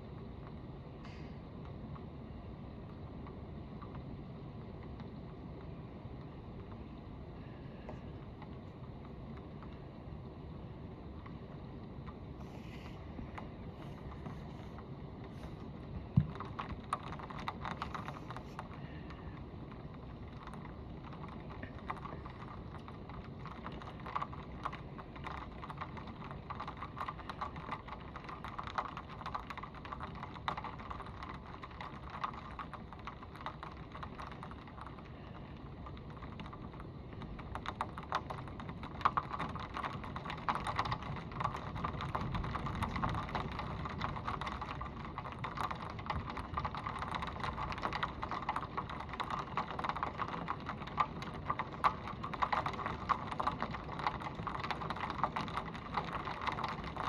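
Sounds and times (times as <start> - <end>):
heavy rain on pavement: 0.0 - 57.0
raindrops tapping: 7.8 - 57.0.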